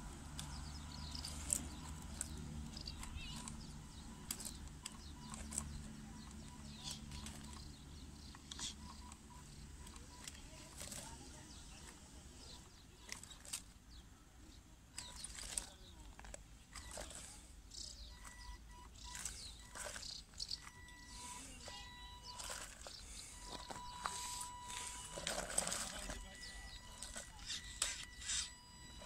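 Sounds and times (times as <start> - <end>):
tyres crunching on gravel: 0.0 - 14.0, 14.9 - 29.0
rc truck crawling over stones: 0.0 - 29.0.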